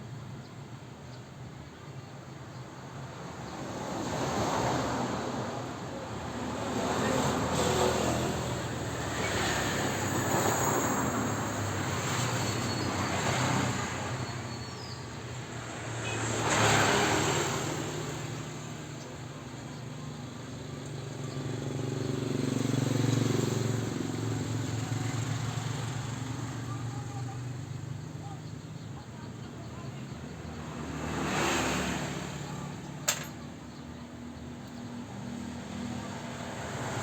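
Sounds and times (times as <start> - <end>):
low traffic hum: 0.0 - 37.0
vehicles passing: 0.0 - 37.0.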